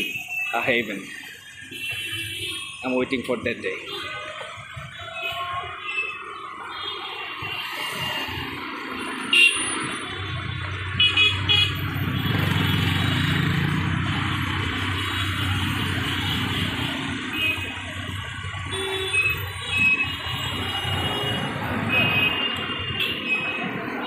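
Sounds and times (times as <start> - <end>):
traffic engines running: 0.0 - 24.0
vehicle horns honking: 1.7 - 3.0, 3.8 - 13.2, 14.9 - 24.0.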